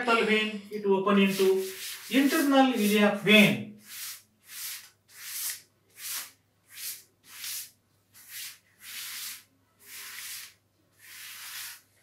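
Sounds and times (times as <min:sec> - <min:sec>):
eraser rubbing on blackboard: 0:01.2 - 0:03.0, 0:03.8 - 0:12.0.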